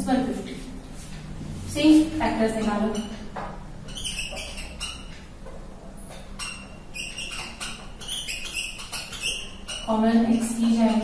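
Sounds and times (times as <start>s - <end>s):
marker squeaking on whiteboard: 0.4s - 11.0s.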